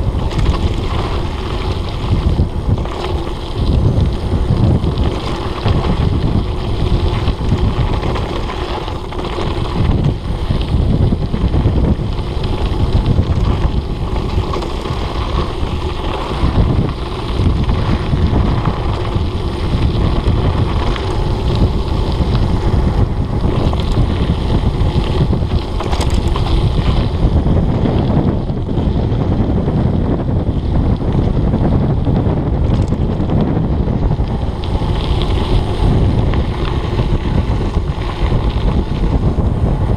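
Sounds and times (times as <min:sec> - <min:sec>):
bike tyres rumbling on gravel: 0:00.0 - 0:39.9
wind buffeting microphone: 0:00.0 - 0:39.9.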